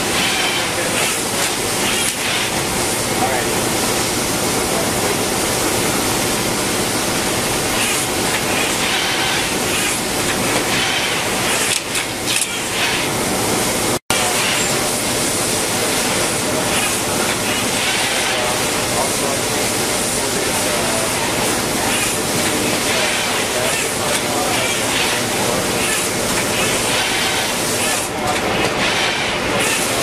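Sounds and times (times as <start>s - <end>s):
machinery hissing: 0.0s - 30.0s.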